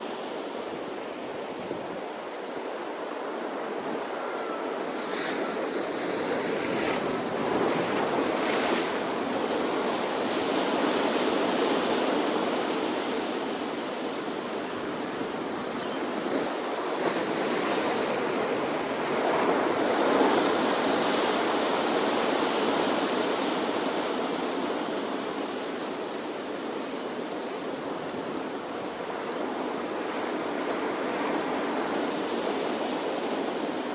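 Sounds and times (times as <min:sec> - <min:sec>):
ocean waves breaking on shore: 0:00.0 - 0:33.9.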